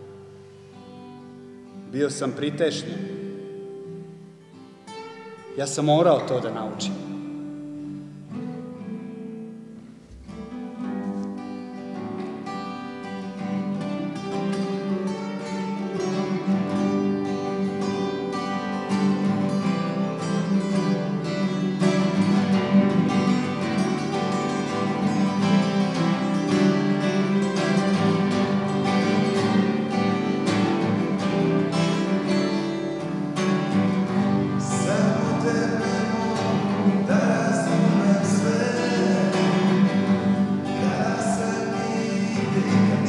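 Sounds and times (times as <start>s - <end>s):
acoustic guitar plucked notes: 0.0s - 43.0s.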